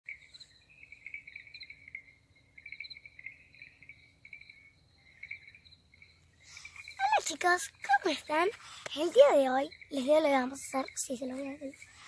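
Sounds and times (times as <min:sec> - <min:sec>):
crickets chirping: 0:00.1 - 0:12.0.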